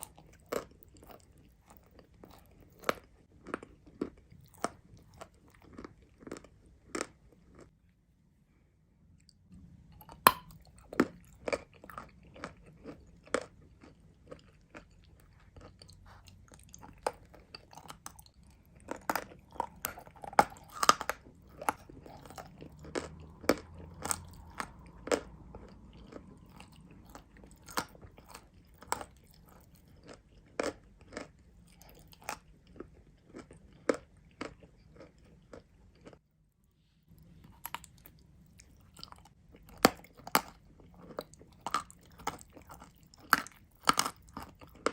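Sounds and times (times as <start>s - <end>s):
person chewing crunchy chalk: 0.0s - 7.7s, 9.9s - 36.2s, 37.1s - 44.9s.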